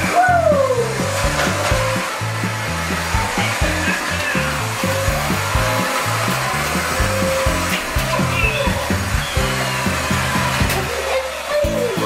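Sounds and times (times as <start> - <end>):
background music with beat: 0.0 - 10.8
toy car motor whirring: 0.6 - 12.0.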